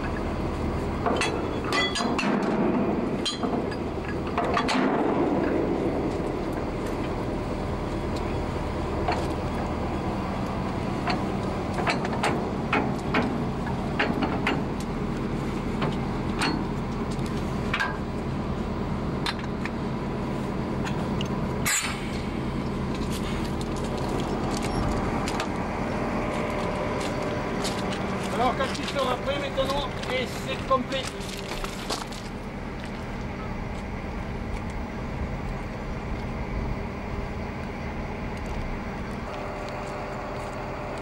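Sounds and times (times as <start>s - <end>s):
diesel locomotive idling: 0.0s - 41.0s.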